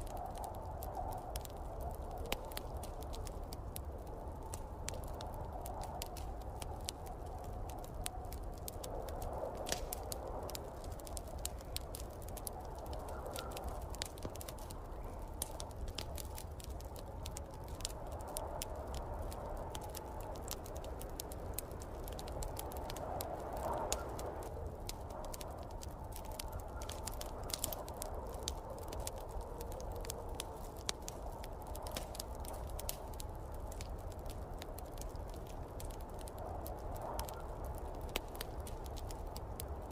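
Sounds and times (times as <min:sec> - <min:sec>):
storm wind: 0:00.0 - 0:39.9
wood fire crackling and popping: 0:00.0 - 0:39.9.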